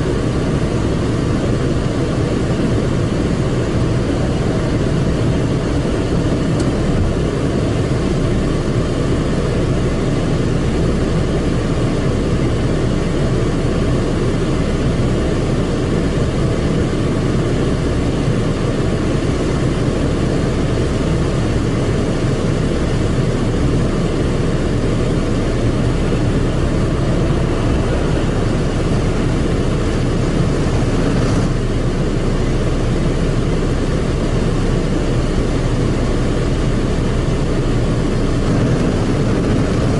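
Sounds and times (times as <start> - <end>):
car wash machine rumbling: 0.0 - 39.9.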